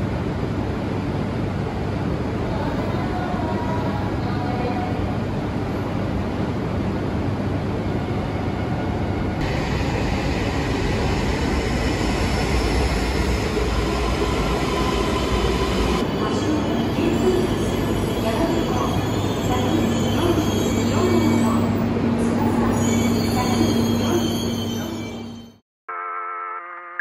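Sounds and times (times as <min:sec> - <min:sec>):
train rumble and rush: 0:00.0 - 0:25.6.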